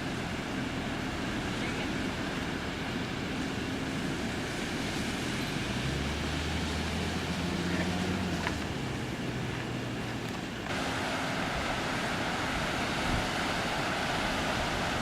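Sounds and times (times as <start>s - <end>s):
steady rushing noise: 0.0s - 15.0s
vehicle engine humming: 0.0s - 15.0s.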